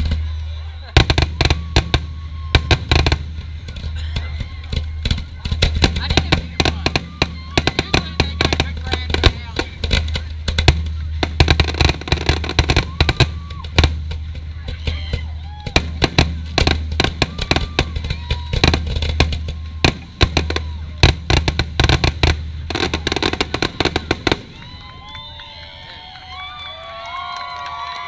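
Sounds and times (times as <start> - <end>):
crowd cheering and shouting: 0.0 - 28.0
fireworks bangs and crackling: 0.0 - 28.0.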